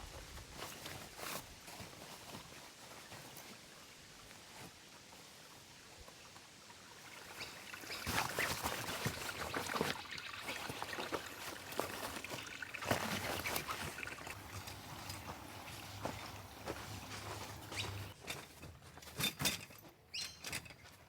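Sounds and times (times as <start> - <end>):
camping gear rustling and knocking: 0.0 - 5.4, 7.3 - 21.0.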